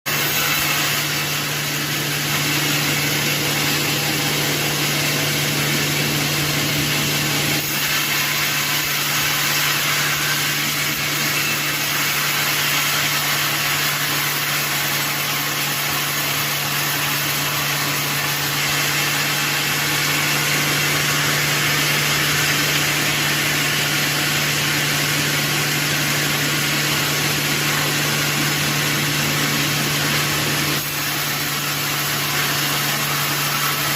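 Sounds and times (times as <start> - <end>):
sawmill machinery humming: 0.1 - 33.9.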